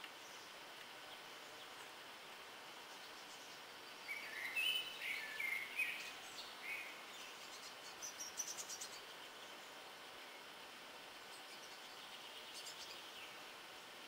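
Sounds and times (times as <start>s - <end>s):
faint steady hiss: 0.0s - 14.0s
small songbird calling: 0.0s - 14.0s.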